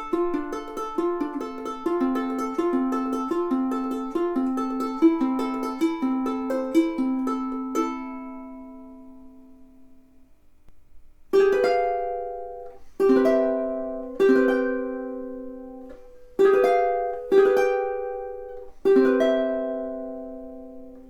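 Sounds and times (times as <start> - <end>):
ukulele chords strummed: 0.0 - 10.2, 11.3 - 21.0.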